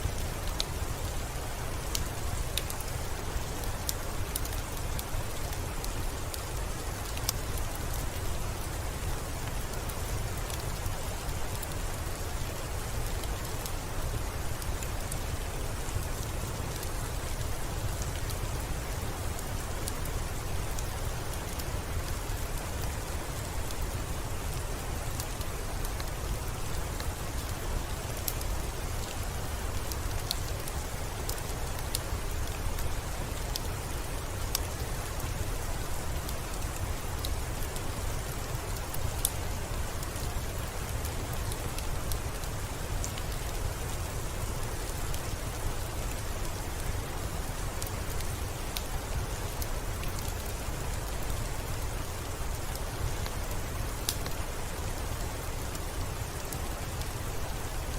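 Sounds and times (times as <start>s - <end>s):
crackling wood fire: 0.0s - 57.9s
steady rain: 0.0s - 57.9s.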